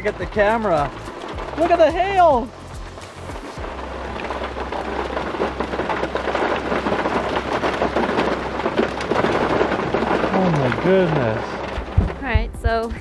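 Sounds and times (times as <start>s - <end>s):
hail and rain clattering: 0.0s - 13.0s
low rumble: 0.0s - 13.0s.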